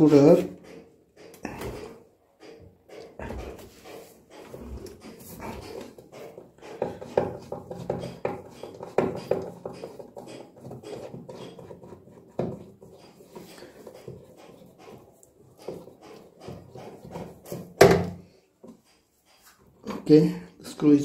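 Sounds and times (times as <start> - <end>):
screwdriver clicking and creaking: 0.3 - 17.6.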